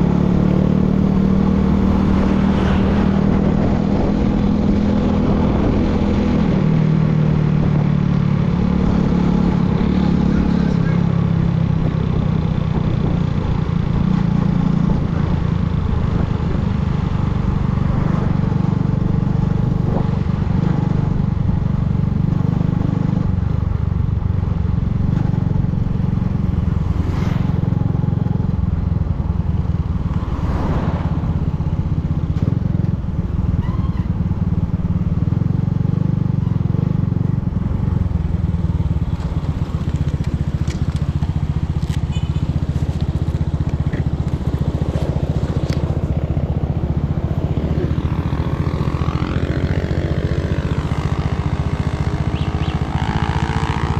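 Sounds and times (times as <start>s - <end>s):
motorcycle engine droning: 0.0s - 53.9s.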